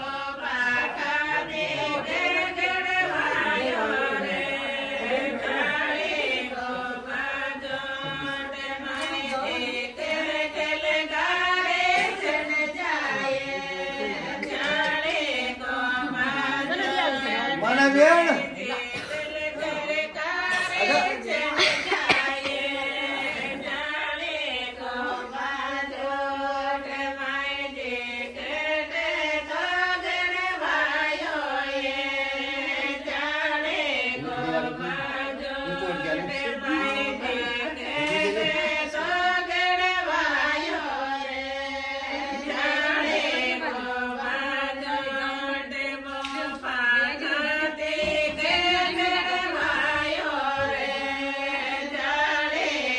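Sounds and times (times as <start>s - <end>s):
women singing folk song: 0.0s - 52.9s.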